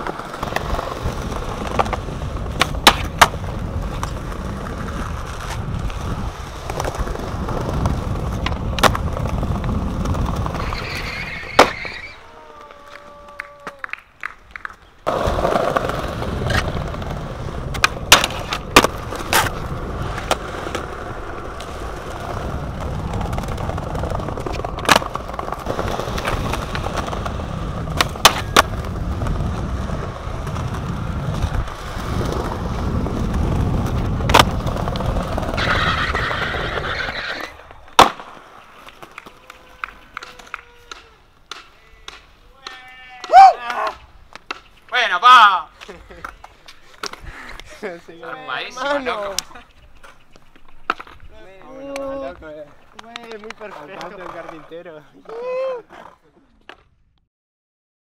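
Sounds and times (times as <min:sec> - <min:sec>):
skateboard pops and clacks: 0:00.0 - 0:10.6, 0:11.6 - 0:12.0, 0:12.6 - 0:32.5, 0:33.2 - 0:44.9, 0:48.9 - 0:51.2, 0:53.0 - 0:55.4
skateboard wheels rolling on pavement: 0:00.0 - 0:57.2.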